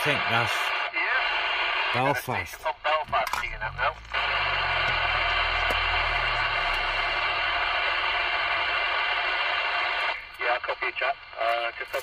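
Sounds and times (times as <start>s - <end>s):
faint steady tones: 0.0s - 12.0s
radio static hiss: 0.0s - 12.0s.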